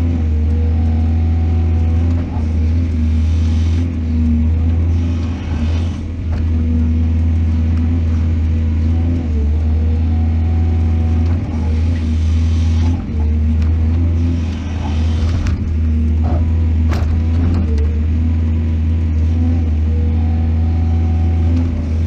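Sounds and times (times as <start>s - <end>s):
diesel excavator engine droning: 0.0s - 22.0s.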